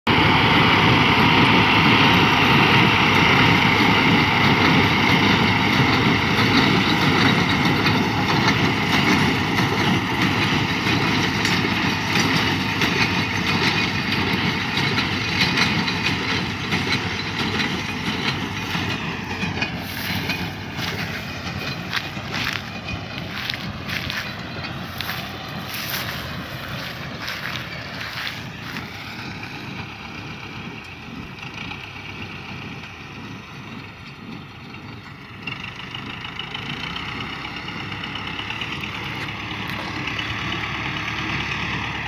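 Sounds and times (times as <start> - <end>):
tractor and baler running: 0.1 - 42.0.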